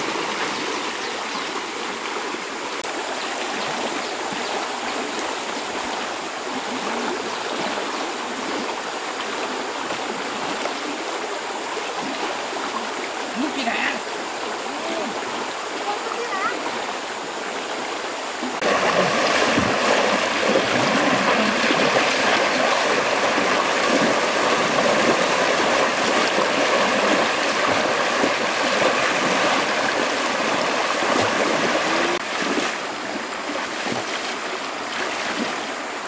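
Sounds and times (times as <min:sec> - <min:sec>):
stream rushing over rapids: 0:00.0 - 0:36.0.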